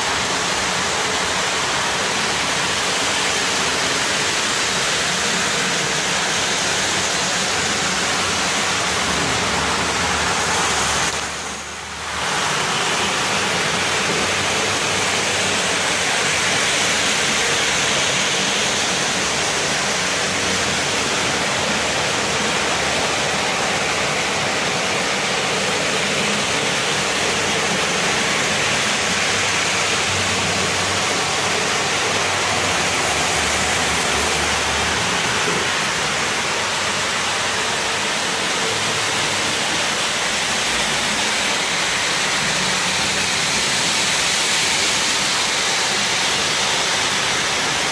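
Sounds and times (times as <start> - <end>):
model trains whirring: 0.0 - 47.9.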